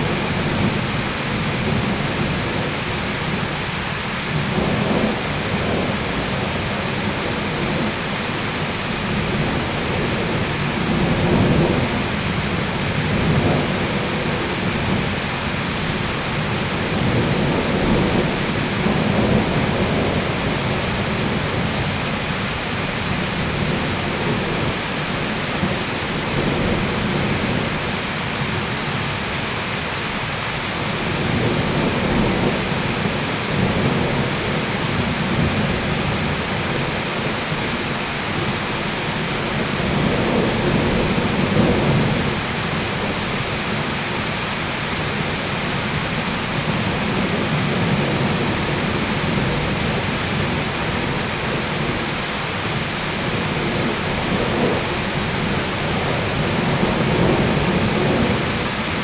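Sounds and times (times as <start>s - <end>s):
low rolling thunder: 0.0s - 29.7s, 30.5s - 59.0s
heavy rain: 0.0s - 59.0s.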